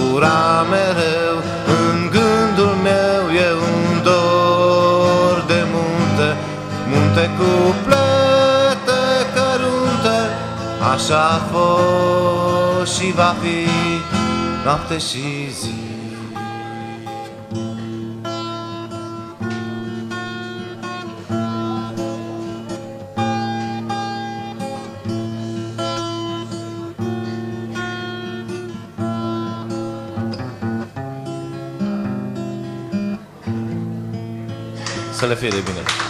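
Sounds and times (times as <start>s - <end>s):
acoustic guitar chords: 0.0s - 36.0s.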